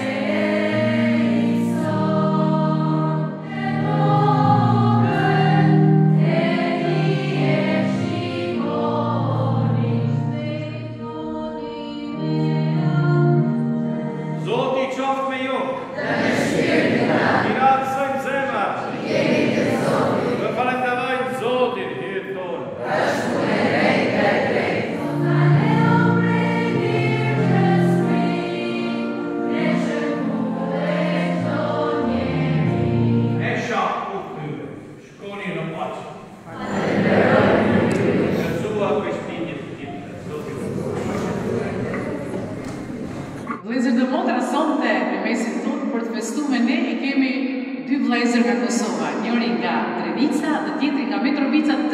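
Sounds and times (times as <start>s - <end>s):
choir singing a hymn: 0.0s - 43.6s.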